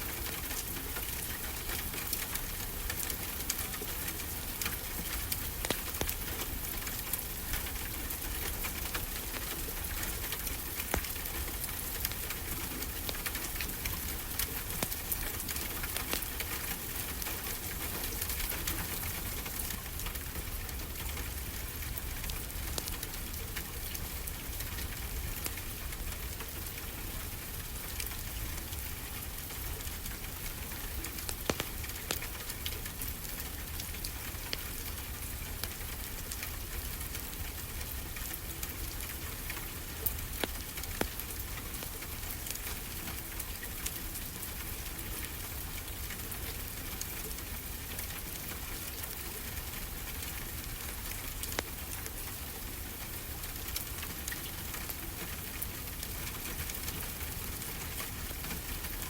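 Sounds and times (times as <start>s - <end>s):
fireplace crackling and popping: 0.2s - 24.0s, 29.7s - 44.7s, 45.3s - 59.0s.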